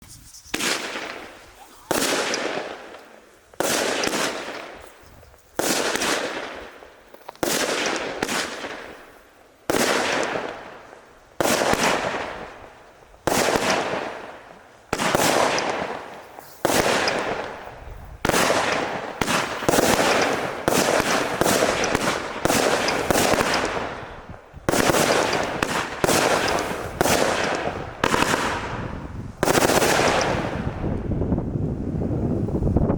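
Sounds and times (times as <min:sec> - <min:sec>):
fireworks bangs: 0:00.0 - 0:31.4.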